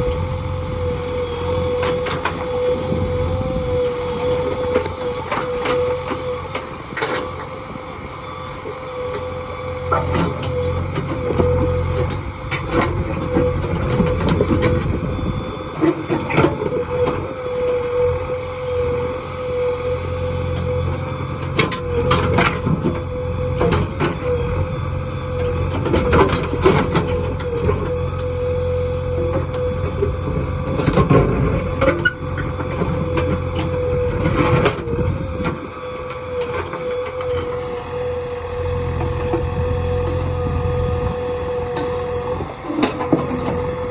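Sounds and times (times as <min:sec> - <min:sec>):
diesel engine under load: 0:00.0 - 0:43.9.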